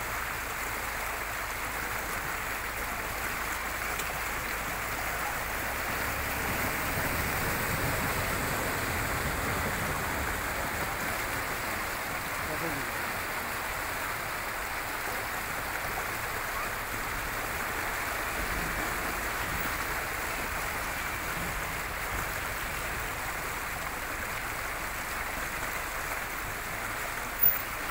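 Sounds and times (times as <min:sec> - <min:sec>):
river flowing over stones: 0:00.0 - 0:27.9.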